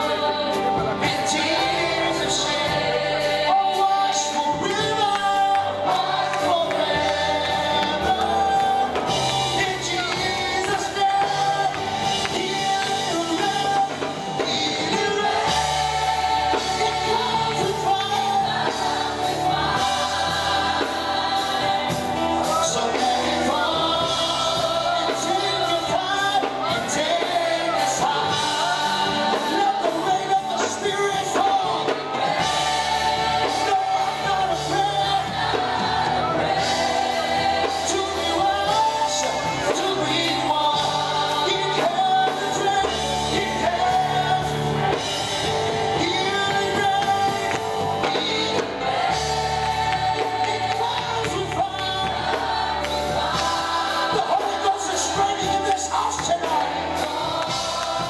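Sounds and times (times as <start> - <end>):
band playing: 0.0 - 58.0
group singing gospel: 0.0 - 58.0.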